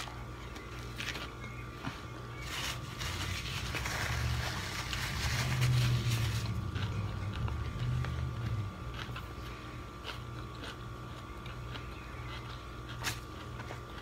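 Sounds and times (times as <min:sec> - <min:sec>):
low steady hum: 0:00.0 - 0:14.0
wet crackly chewing: 0:00.0 - 0:14.0.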